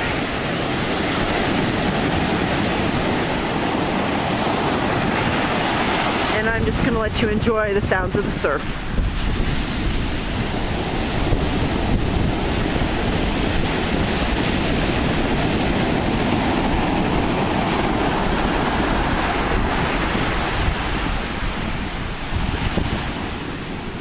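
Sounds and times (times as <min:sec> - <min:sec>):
heavy surf breaking on beach: 0:00.0 - 0:24.0
wind rumbling on microphone: 0:00.0 - 0:24.0.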